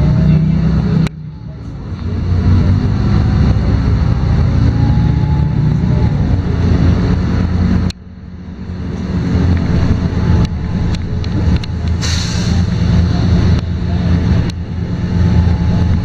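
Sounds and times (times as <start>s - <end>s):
bus diesel engine under load: 0.0s - 16.0s.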